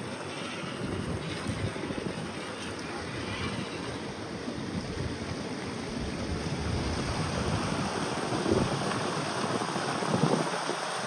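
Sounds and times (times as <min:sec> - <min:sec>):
rush of foaming seawater: 0:00.0 - 0:11.0.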